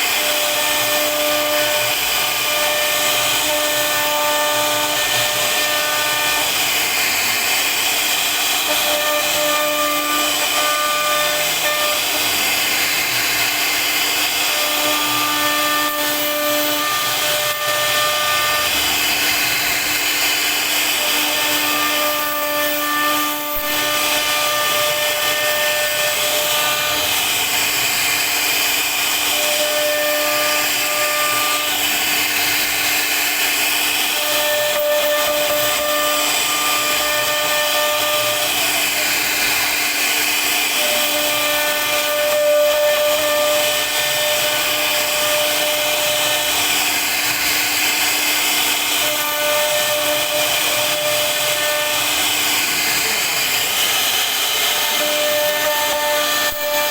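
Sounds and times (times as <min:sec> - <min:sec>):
cnc router carving wood: 0:00.0 - 0:56.9.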